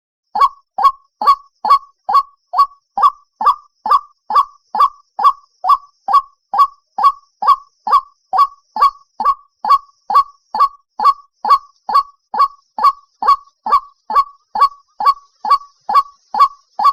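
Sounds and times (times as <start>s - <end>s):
waterhen calling: 0.4s - 16.9s.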